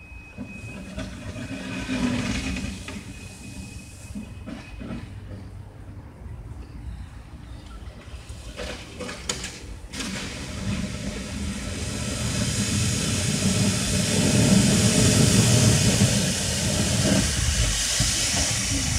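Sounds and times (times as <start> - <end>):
golf cart engine rumble: 0.0 - 18.9.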